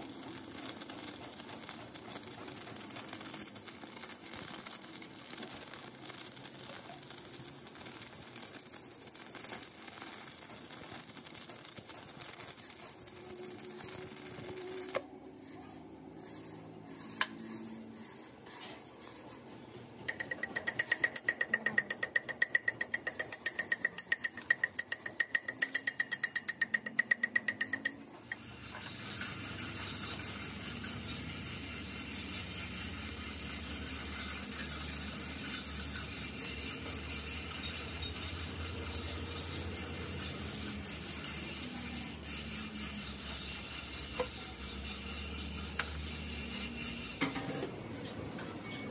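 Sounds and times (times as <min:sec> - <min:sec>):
welding hiss: 0:00.0 - 0:19.4, 0:27.6 - 0:47.6
welding high tone: 0:00.0 - 0:19.5, 0:26.8 - 0:48.1
arc welding crackling: 0:00.0 - 0:48.9.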